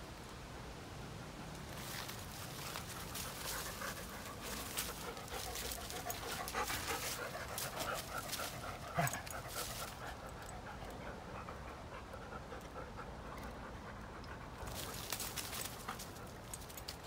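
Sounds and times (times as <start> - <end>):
dogs panting: 2.4 - 17.0.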